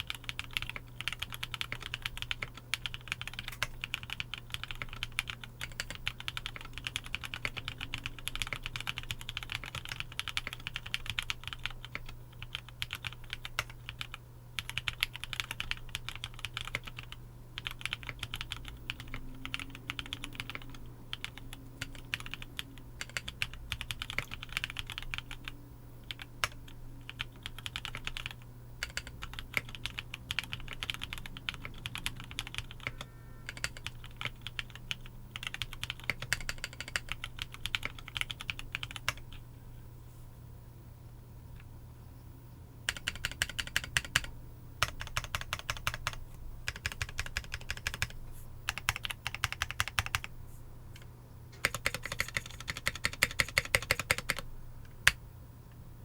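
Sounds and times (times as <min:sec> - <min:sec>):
mechanical keyboard typing: 0:00.0 - 0:39.4, 0:42.9 - 0:50.3, 0:51.0 - 0:55.2.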